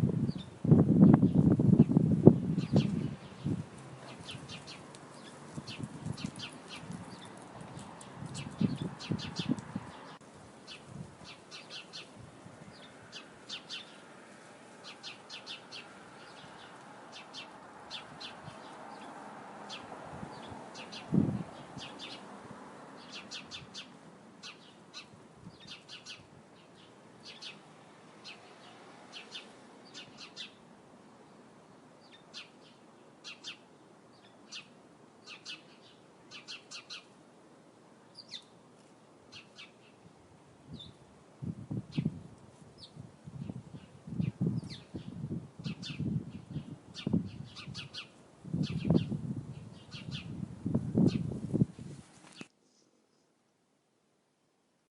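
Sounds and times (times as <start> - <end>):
sparrows chirping: 0.2 - 31.4, 32.0 - 37.2, 38.1 - 38.6, 39.3 - 40.0, 40.7 - 41.0, 41.8 - 42.2, 42.8 - 51.6.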